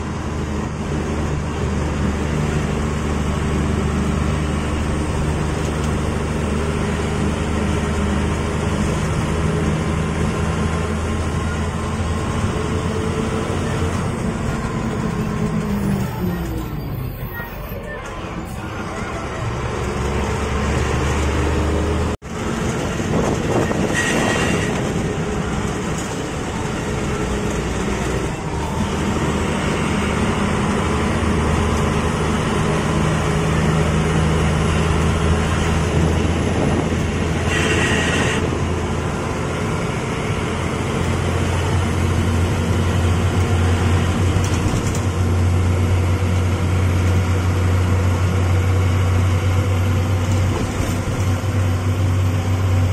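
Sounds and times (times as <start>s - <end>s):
bus diesel engine droning: 0.0s - 52.9s.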